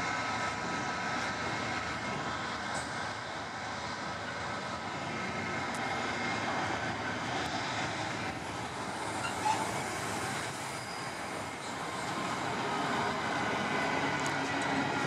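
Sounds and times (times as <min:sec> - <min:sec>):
freight train wagons rolling: 0:00.2 - 0:15.0.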